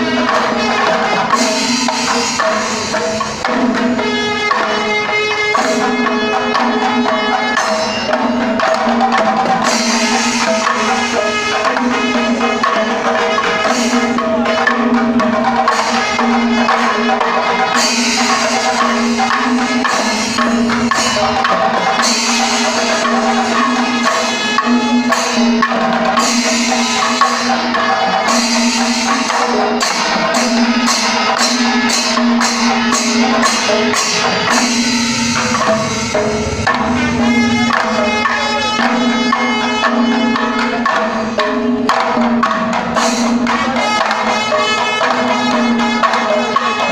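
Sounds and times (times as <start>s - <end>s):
hourglass drums beaten: 0.0s - 46.8s
cymbals clashing: 0.0s - 46.9s.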